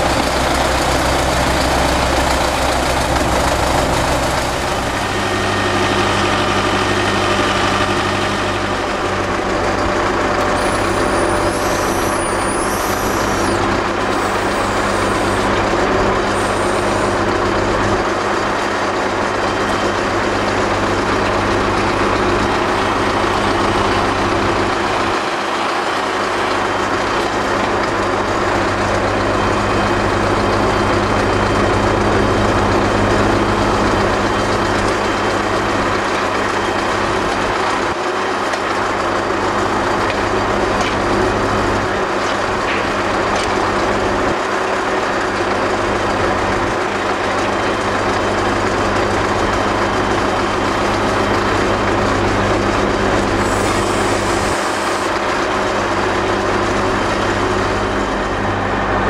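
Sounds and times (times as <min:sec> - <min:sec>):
engine humming: 0:00.0 - 0:59.0
feed mixer running: 0:00.0 - 0:59.0.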